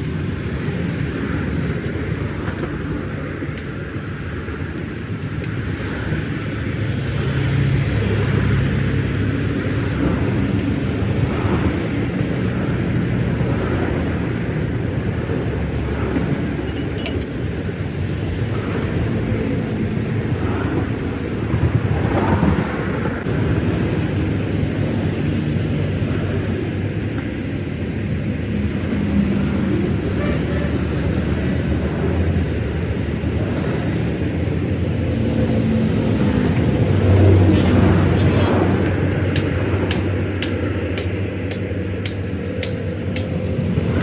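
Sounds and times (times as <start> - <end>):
heavy engine running: 0.0 - 22.2, 22.9 - 44.0.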